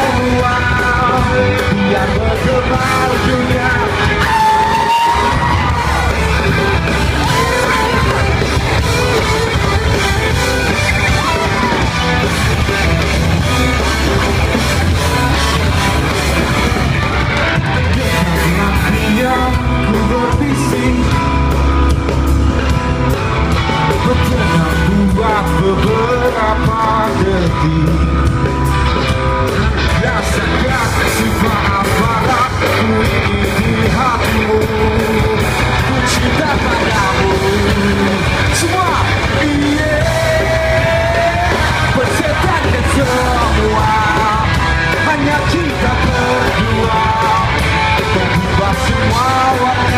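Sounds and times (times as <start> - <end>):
person singing: 0.0 - 21.7, 22.6 - 28.6, 29.8 - 49.9
electric guitar: 0.0 - 49.9
rock band playing live: 0.0 - 49.9.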